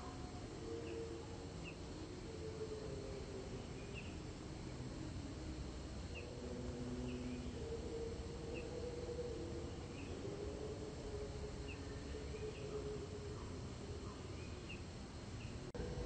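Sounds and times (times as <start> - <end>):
low steady hum and rumble: 0.0 - 16.0.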